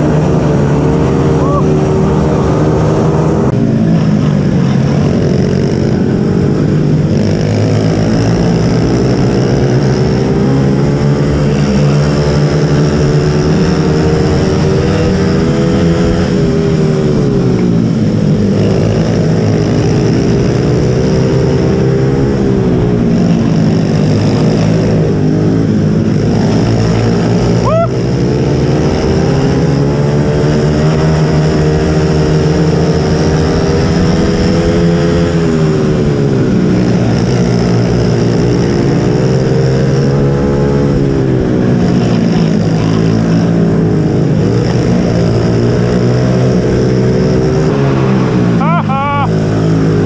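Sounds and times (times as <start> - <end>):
mini bike engine racing: 0.0 - 50.0.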